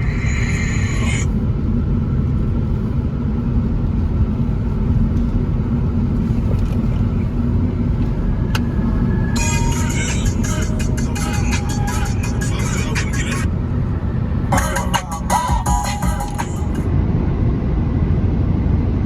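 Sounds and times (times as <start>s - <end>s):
car driving at speed: 0.0s - 19.0s.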